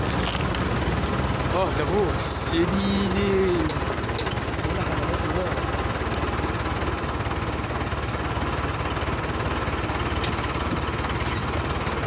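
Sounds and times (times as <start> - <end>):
tractor diesel engine clattering: 0.0 - 12.0.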